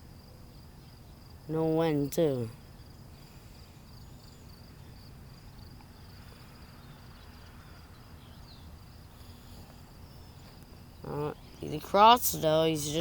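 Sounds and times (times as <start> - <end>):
faint low hum: 0.0 - 13.0
insects chirping: 0.0 - 13.0.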